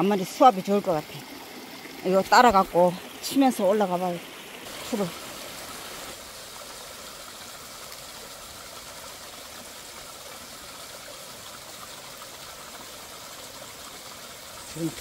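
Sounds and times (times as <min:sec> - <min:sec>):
stream water trickling over rocks: 0:00.0 - 0:15.0.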